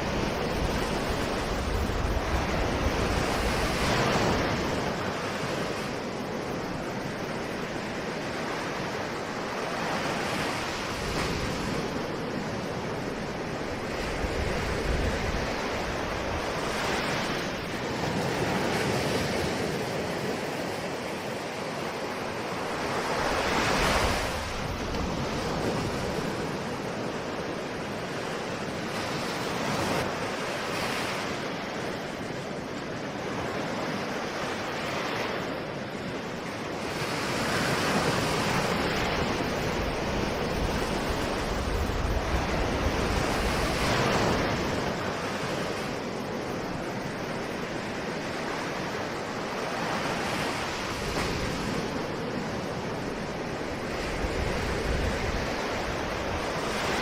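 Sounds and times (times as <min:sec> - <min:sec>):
ocean waves breaking on shore: 0:00.0 - 0:57.0
wind on microphone: 0:00.0 - 0:57.0.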